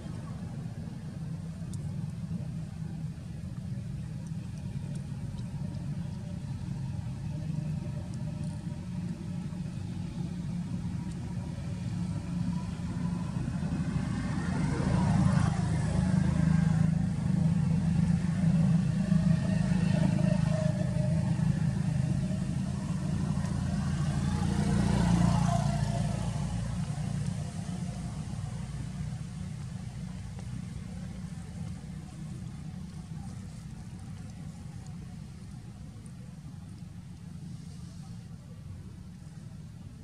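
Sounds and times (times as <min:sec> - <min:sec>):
vehicle engines rumbling: 0:00.0 - 0:40.0.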